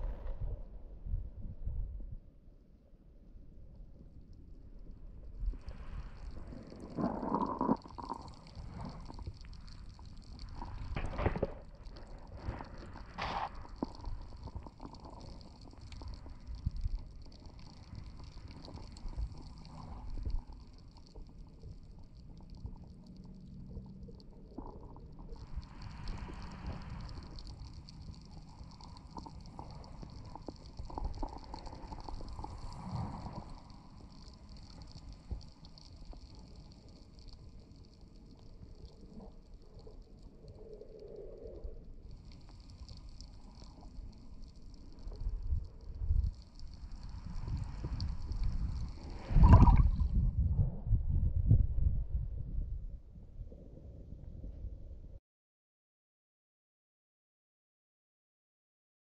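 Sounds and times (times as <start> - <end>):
faint steady crackle: 0.0 - 55.2
muffled underwater rumble with gurgling: 0.0 - 55.2.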